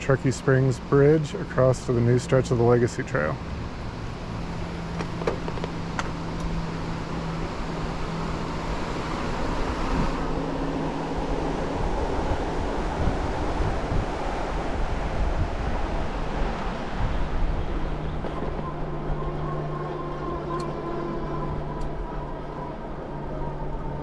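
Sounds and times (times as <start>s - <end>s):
wind rushing over microphone: 3.5s - 24.0s.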